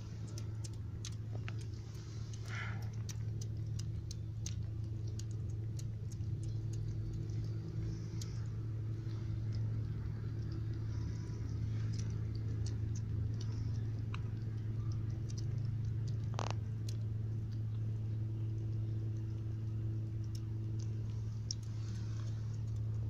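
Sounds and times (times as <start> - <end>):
kittens lapping and chewing: 0.0 - 23.0
steady low hum: 0.0 - 23.0.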